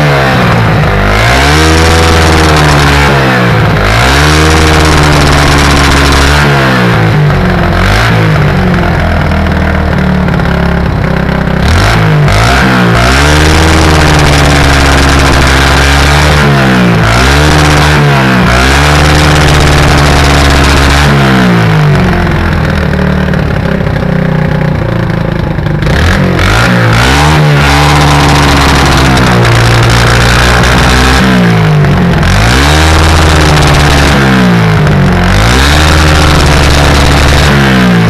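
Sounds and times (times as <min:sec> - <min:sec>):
engine pops: 0:00.0 - 0:38.0
motorcycle engine revving: 0:00.0 - 0:38.0.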